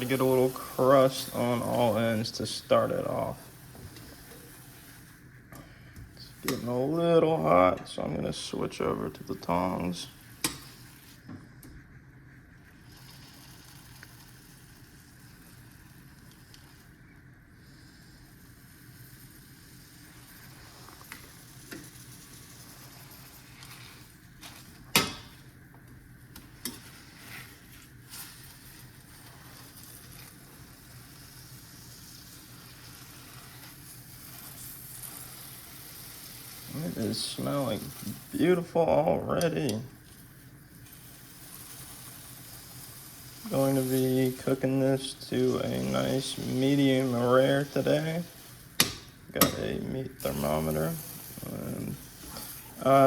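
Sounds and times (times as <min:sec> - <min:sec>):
steak sizzling in pan: 0:00.0 - 0:05.4, 0:08.7 - 0:11.3, 0:12.6 - 0:53.0.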